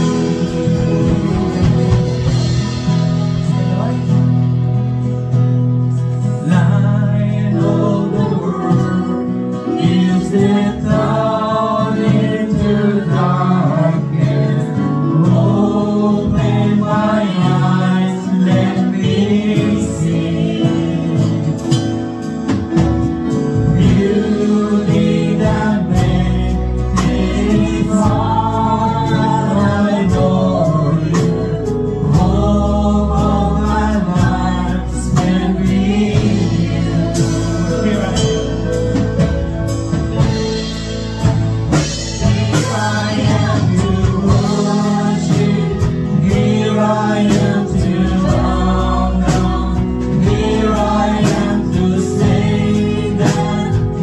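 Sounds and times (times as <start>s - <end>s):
deep bass notes: 0.0s - 54.0s
worship band playing: 0.0s - 54.0s
voices singing: 6.3s - 21.8s, 23.5s - 39.5s, 40.1s - 54.0s.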